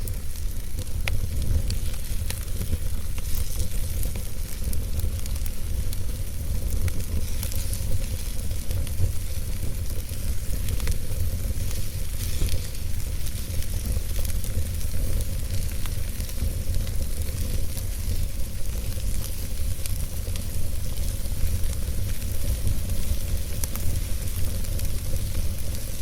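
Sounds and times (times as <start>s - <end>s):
burning wood crackles and pops: 0.0s - 26.0s
campfire hiss: 0.0s - 26.0s.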